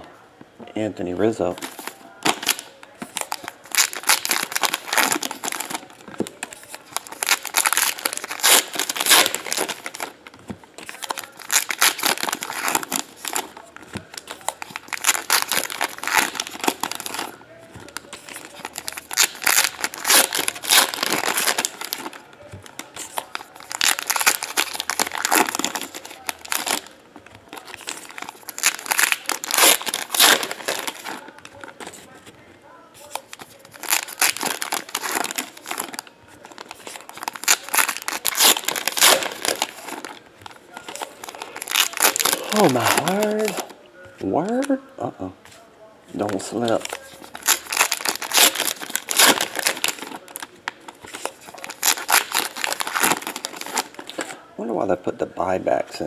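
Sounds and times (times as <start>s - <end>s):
card pack wrappers tearing and crinkling: 1.2s - 32.2s, 33.0s - 43.8s, 46.2s - 54.4s.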